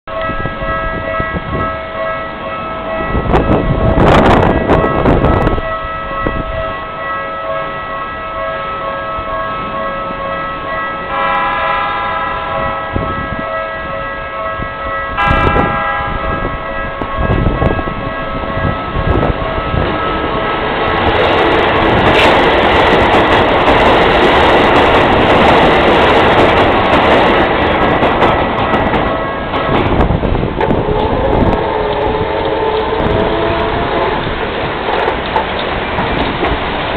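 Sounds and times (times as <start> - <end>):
level-crossing alarm bells: 0.1 - 34.4
electric train passing: 0.1 - 36.9.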